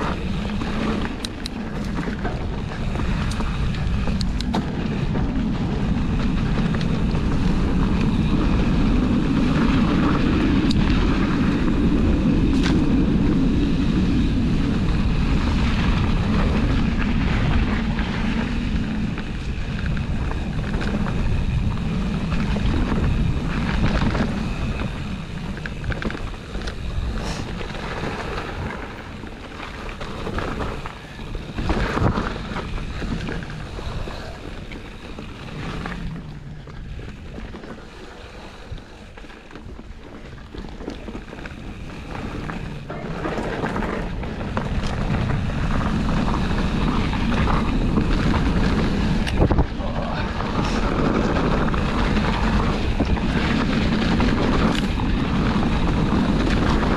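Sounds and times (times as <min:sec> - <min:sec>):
bike rattling and knocking: 0:00.0 - 0:56.9
bike tyres rumbling on dirt: 0:00.0 - 0:56.9
wind rushing over microphone: 0:00.0 - 0:56.9.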